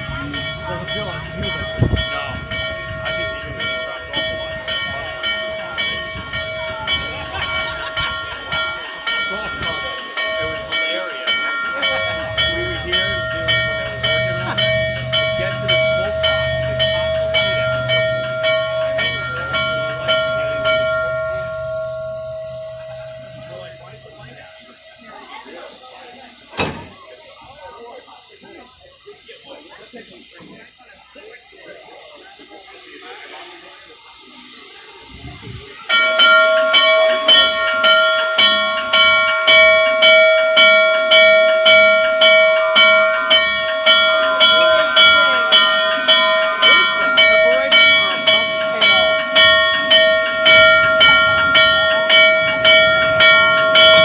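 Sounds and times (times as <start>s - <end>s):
steam locomotive bell ringing: 0.0s - 54.0s.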